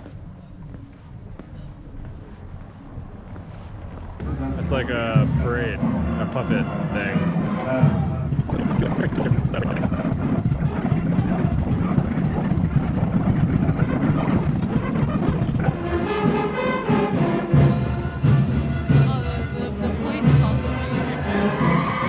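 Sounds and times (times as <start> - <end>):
drumming: 4.2 - 22.0
loud street parade music: 4.2 - 22.0.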